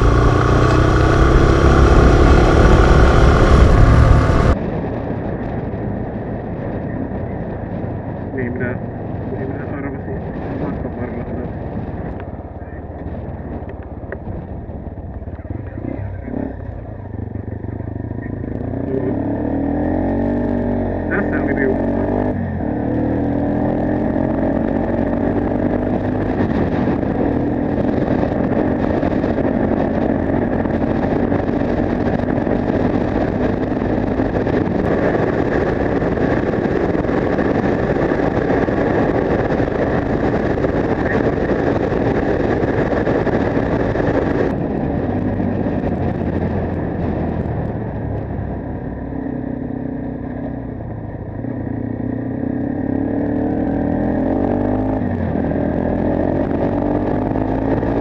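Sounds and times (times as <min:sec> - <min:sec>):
wind noise rushing: 0:00.0 - 0:15.3, 0:16.6 - 0:58.0
motorcycle engine running: 0:00.0 - 0:58.0.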